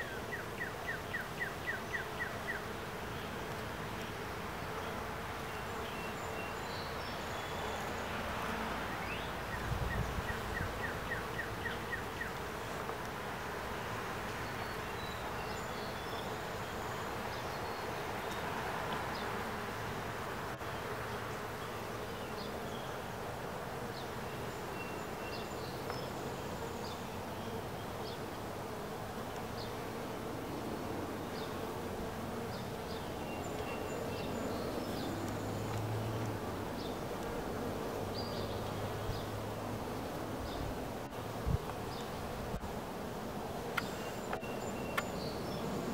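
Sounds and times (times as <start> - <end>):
bees humming: 0.0 - 45.9.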